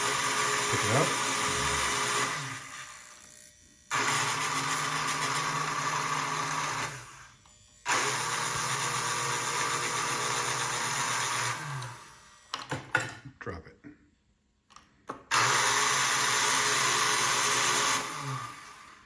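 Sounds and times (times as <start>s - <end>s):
electric motor and gears whirring: 0.0s - 12.7s, 15.2s - 19.0s.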